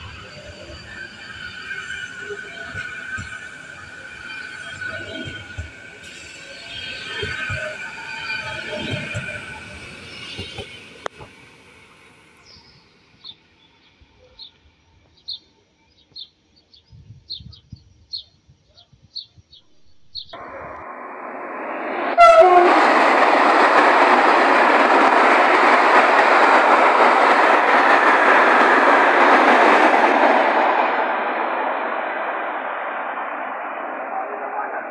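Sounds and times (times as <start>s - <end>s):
train rushing past: 0.0s - 13.4s, 20.3s - 34.9s.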